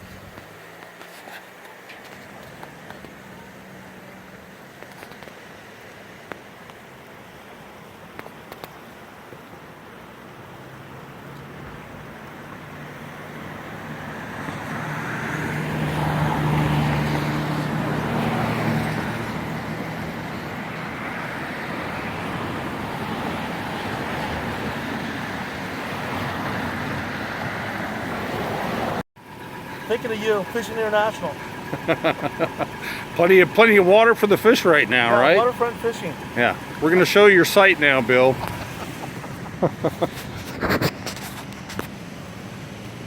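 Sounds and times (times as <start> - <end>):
vehicle engine and tyre noise: 0.0 - 43.0.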